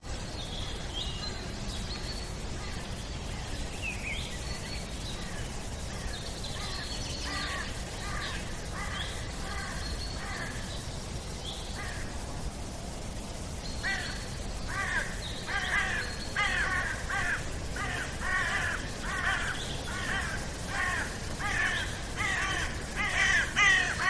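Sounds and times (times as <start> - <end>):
birds chirping: 0.1 - 12.5, 13.1 - 24.0.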